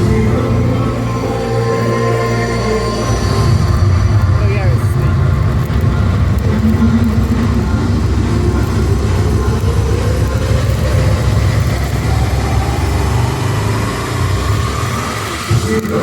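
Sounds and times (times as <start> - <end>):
deep mechanical rumble: 0.0 - 16.0
rising mechanical whine: 0.0 - 16.0.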